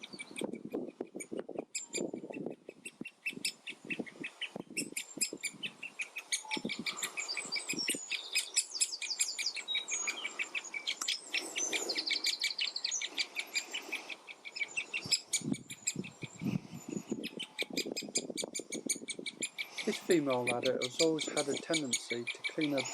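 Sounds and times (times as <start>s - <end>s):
woodland birds singing: 0.0s - 22.9s
woodpecker nestling calling: 0.0s - 22.9s.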